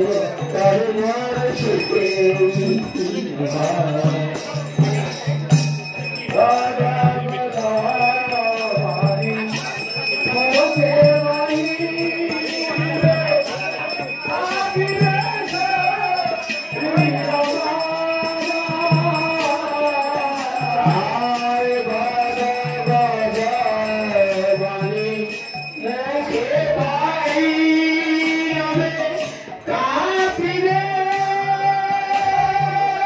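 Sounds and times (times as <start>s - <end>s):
drum beating: 0.0s - 33.0s.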